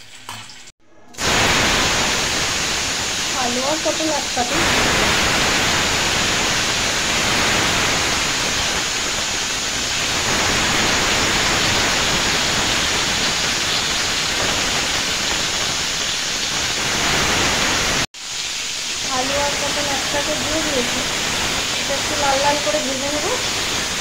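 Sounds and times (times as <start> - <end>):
vegetables sizzling in hot oil: 0.6 - 24.0.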